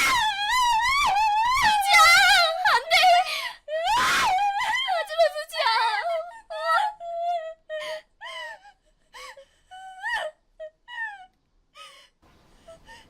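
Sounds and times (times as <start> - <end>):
person crying and sobbing: 0.0 - 11.3.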